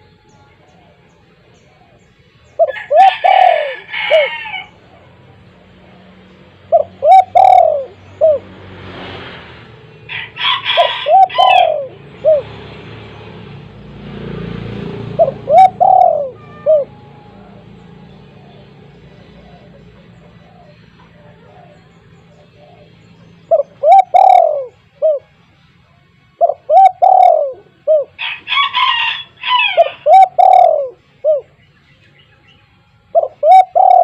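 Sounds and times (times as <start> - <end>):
dove cooing: 0.6 - 8.7, 10.1 - 13.8, 14.8 - 25.4, 26.4 - 31.6, 33.1 - 34.0.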